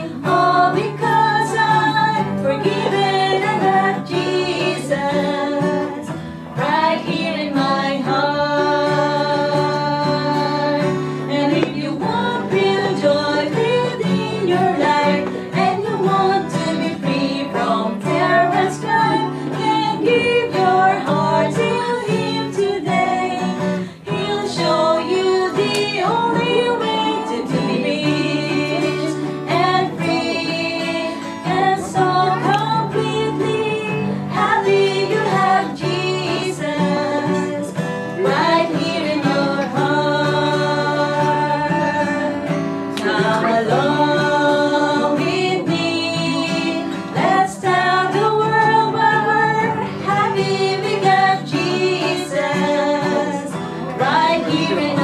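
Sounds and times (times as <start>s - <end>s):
acoustic guitar: 0.0s - 55.0s
voices singing gospel song: 0.0s - 55.0s.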